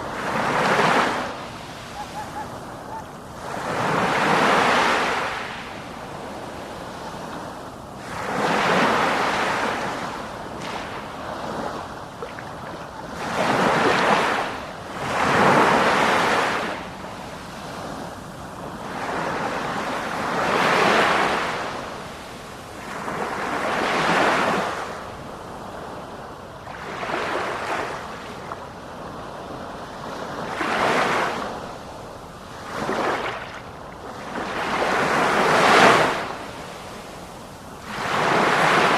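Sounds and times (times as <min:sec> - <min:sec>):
ocean waves breaking on shore: 0:00.0 - 0:38.9
wind on microphone: 0:00.0 - 0:38.9.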